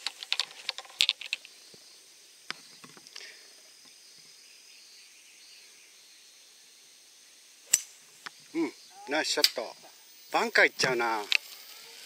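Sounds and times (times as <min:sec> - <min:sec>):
faint high insect buzz: 0:00.0 - 0:12.0.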